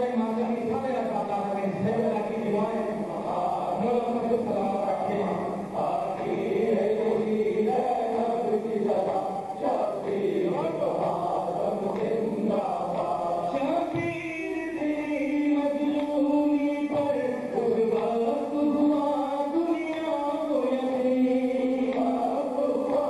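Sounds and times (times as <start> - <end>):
man chanting a lament: 0.0 - 23.0.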